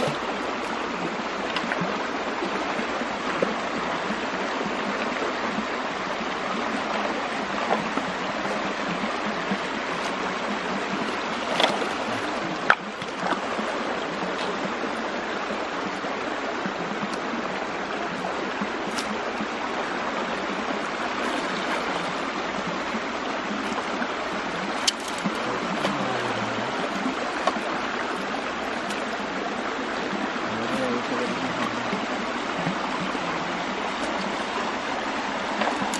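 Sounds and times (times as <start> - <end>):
stream water rippling: 0.0 - 35.9.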